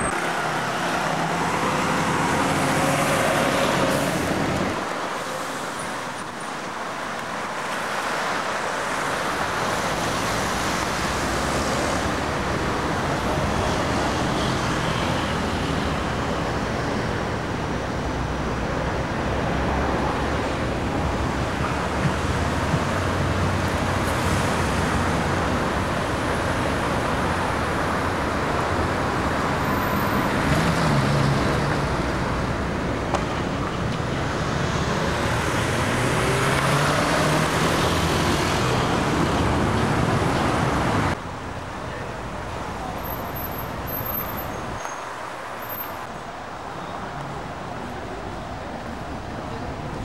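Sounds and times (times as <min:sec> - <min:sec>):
distant traffic hum: 0:00.0 - 0:50.0
road traffic engine and tyre noise: 0:00.0 - 0:50.0.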